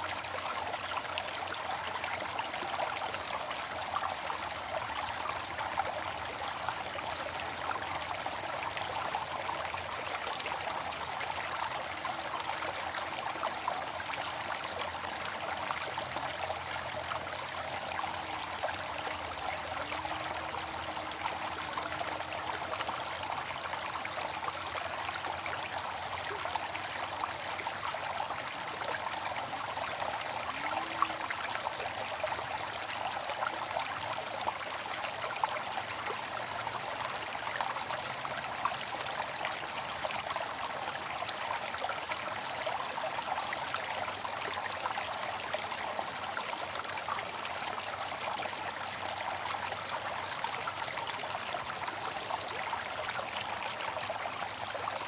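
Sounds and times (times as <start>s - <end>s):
water fountain splashing: 3.1s - 55.0s.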